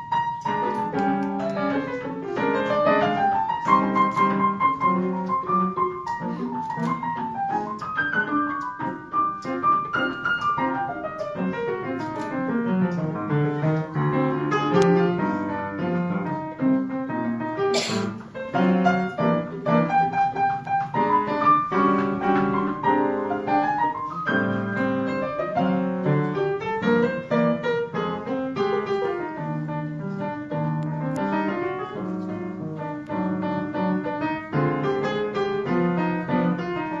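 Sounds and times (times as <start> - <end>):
piano chords: 0.0 - 37.0.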